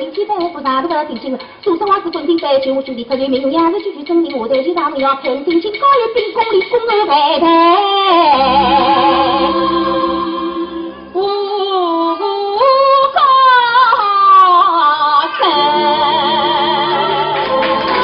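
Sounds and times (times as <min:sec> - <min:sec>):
traditional instrumental ensemble: 0:00.0 - 0:11.7, 0:15.2 - 0:18.0
opera singing: 0:00.0 - 0:18.0.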